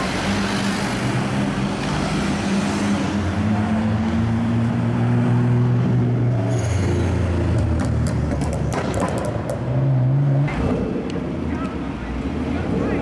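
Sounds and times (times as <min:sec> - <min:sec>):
cars driving past: 0:00.0 - 0:13.0.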